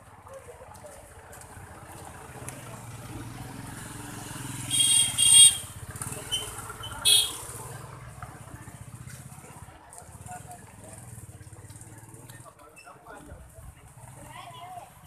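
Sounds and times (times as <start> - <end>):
vehicle engine humming: 0.0 - 12.4.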